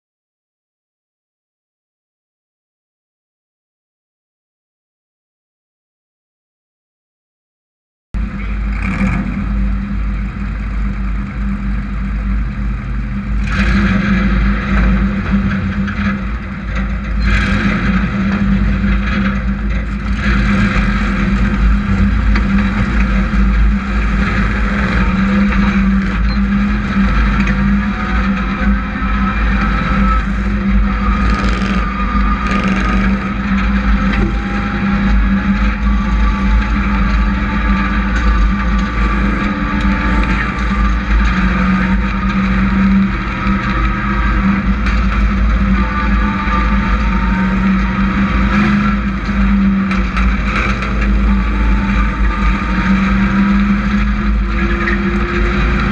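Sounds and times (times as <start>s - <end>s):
race truck engines revving: 8.2s - 55.9s.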